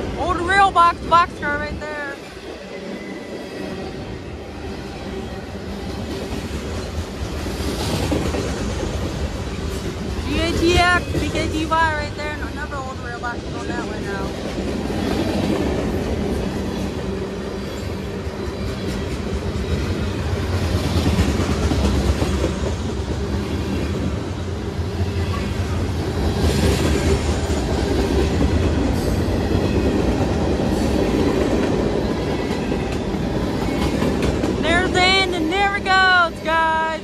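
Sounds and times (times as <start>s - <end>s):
wheels clickety-clack on rail joints: 0.0s - 36.5s
train wheels rumbling on rail: 0.0s - 37.0s.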